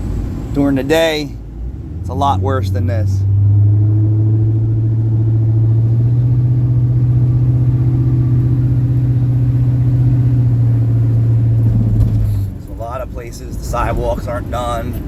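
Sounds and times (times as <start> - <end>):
road noise: 0.0 - 15.0
vehicle engine drone: 0.0 - 15.0.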